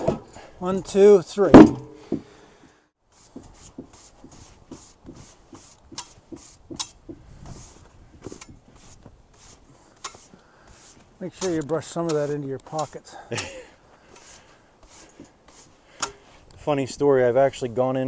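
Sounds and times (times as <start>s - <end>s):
stiff brush sweeping sawdust: 3.0s - 17.9s.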